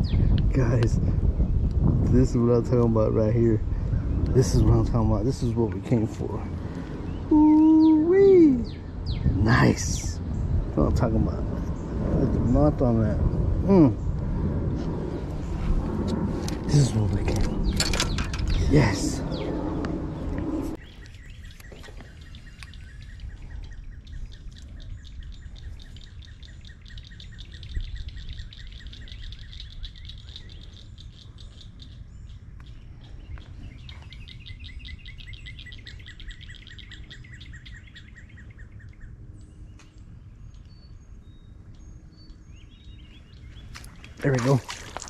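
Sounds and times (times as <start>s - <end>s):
steady low rumble: 0.0s - 45.0s
birds trilling: 3.3s - 13.2s, 13.8s - 45.0s.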